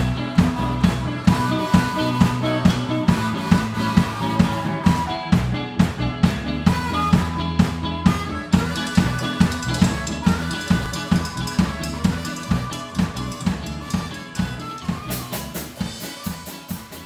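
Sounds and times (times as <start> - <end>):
bass drum and snare beat: 0.0 - 17.0
blues rock band playing: 0.0 - 17.0.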